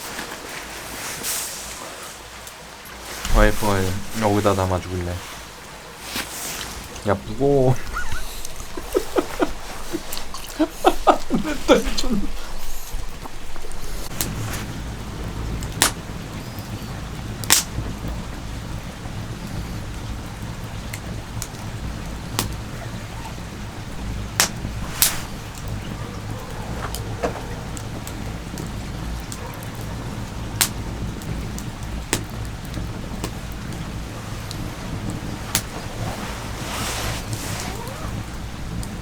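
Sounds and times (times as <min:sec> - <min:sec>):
wood campfire crackling: 0:00.0 - 0:39.0.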